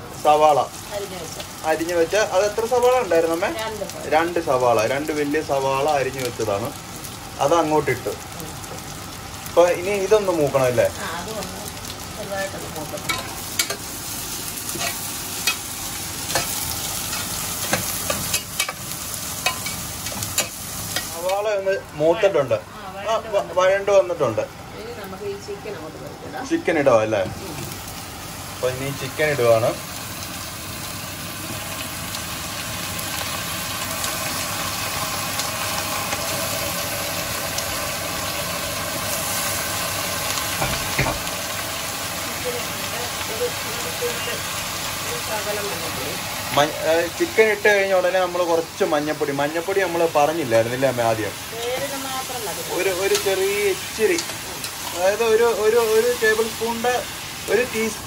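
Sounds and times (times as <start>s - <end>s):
onions sizzling in hot oil: 0.0s - 58.0s.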